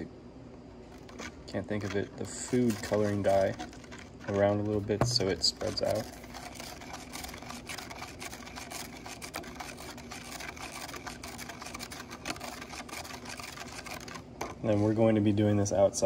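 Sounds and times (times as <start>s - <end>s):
spoon scraping plastic cup: 0.9s - 14.8s.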